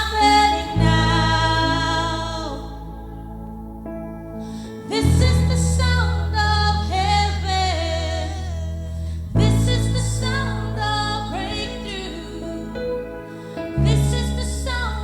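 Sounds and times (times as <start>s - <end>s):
gospel-style singing: 0.0s - 3.6s, 4.8s - 15.0s
sustained low chords: 0.0s - 15.0s.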